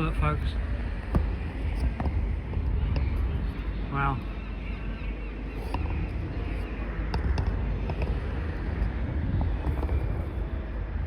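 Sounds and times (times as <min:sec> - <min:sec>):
low background hum: 0:00.0 - 0:11.0
wind rumbling on microphone: 0:00.0 - 0:11.0.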